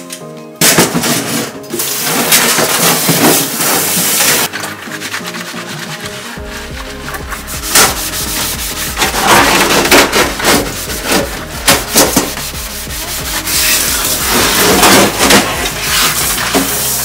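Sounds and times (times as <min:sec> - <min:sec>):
sponge scrubbing metal: 0:01.3 - 0:17.0.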